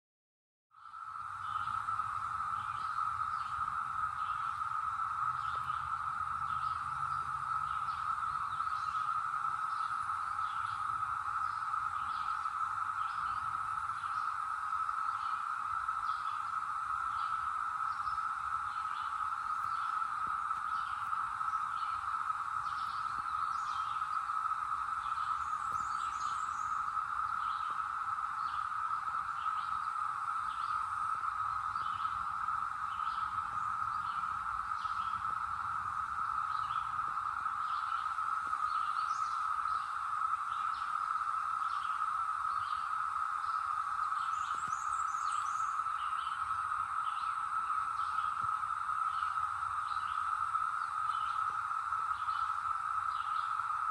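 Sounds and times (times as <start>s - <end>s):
cicadas droning: 0.7s - 53.9s.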